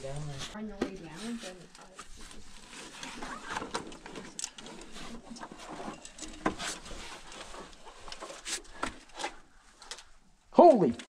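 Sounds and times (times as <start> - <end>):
clothing and rope rustling: 0.0 - 10.2.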